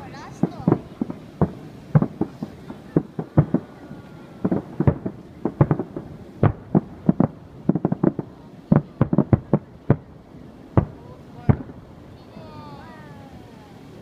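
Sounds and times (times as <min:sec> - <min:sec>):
fireworks booming bangs: 0:00.0 - 0:14.0.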